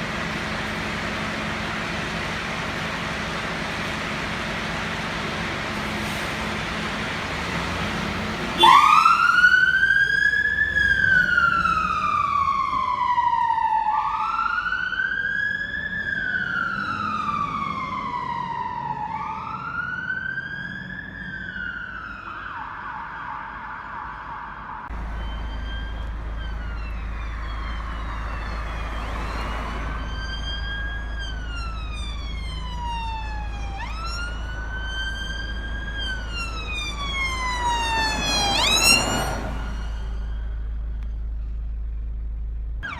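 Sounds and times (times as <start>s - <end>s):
emergency vehicle siren wailing: 0.0s - 41.4s.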